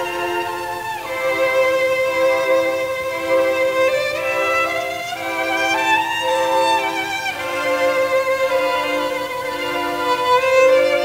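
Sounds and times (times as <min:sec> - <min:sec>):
slow sustained string music: 0:00.0 - 0:11.0.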